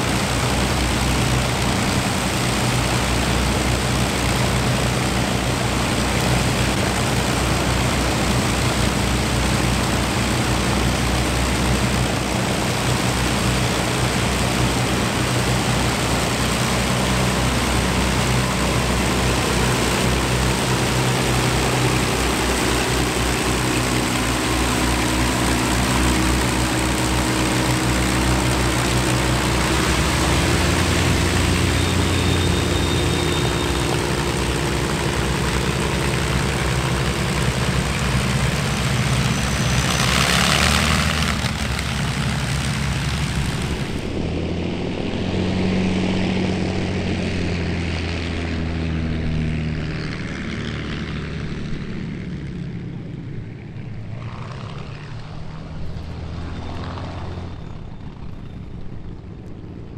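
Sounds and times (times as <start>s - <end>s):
propeller aircraft engines running: 0.0s - 59.9s.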